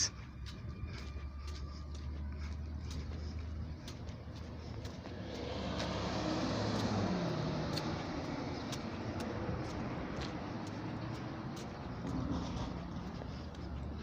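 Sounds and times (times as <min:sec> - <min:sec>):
steady traffic hum: 0:00.0 - 0:14.0
vehicle passing by: 0:00.0 - 0:14.0.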